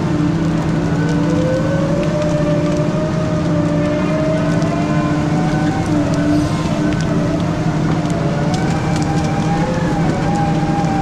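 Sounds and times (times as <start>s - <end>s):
whine rising in pitch: 0.5s - 11.0s.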